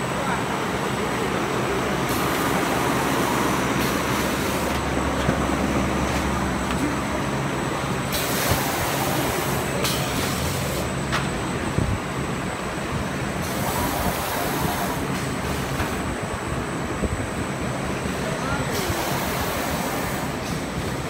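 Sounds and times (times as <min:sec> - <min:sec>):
machine motors and rollers droning: 0:00.0 - 0:21.0.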